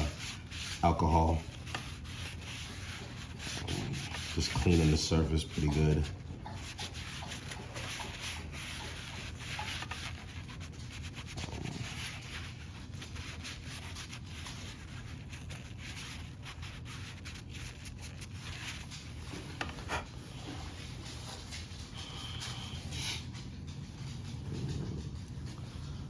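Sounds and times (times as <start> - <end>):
rubbing with scratchy ticks: 0.0 - 26.0.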